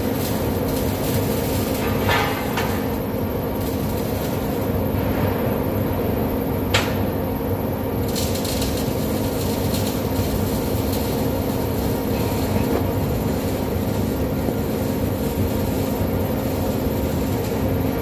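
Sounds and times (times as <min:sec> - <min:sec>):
factory machinery drone: 0:00.0 - 0:18.0.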